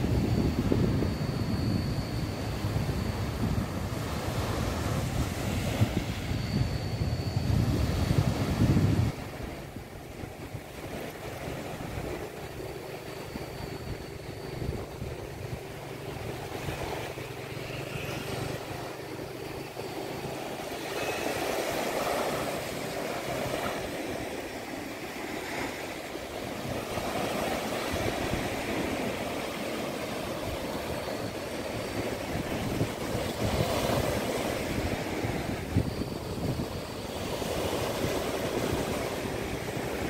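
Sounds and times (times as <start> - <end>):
wind rumbling on microphone: 0.0 - 40.0
waves breaking on beach: 2.5 - 6.8, 7.4 - 40.0.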